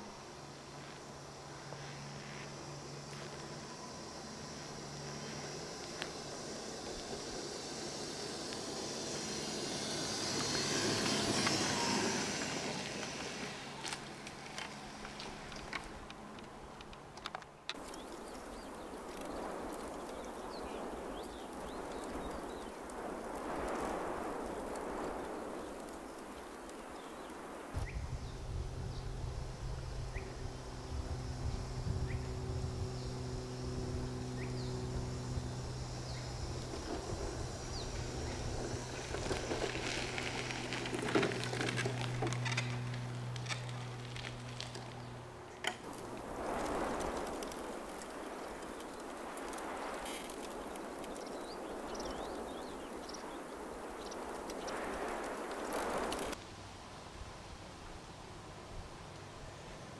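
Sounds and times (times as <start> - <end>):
wheelchair motors humming: 0.0 - 56.4
grit crackling under tyres: 0.0 - 56.6
outdoor hiss: 0.0 - 59.9.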